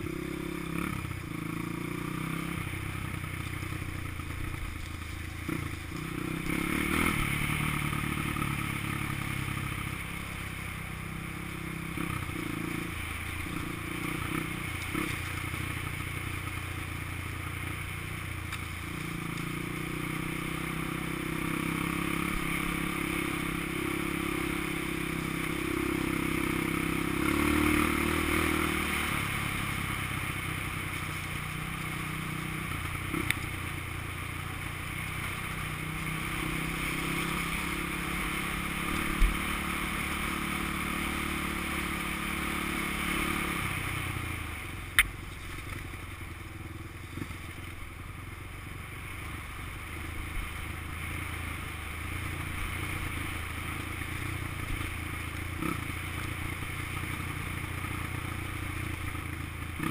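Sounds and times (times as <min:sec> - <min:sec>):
dirt bike engine revving: 0:00.0 - 0:33.7, 0:34.5 - 0:44.8, 0:55.5 - 0:59.9.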